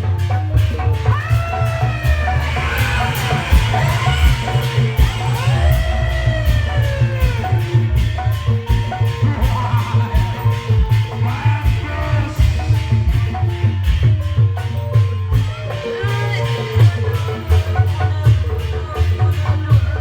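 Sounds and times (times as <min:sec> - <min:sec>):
hand drums beating fast: 0:00.0 - 0:20.0
steady low drone: 0:00.0 - 0:20.0
tuned metal percussion: 0:00.0 - 0:20.0.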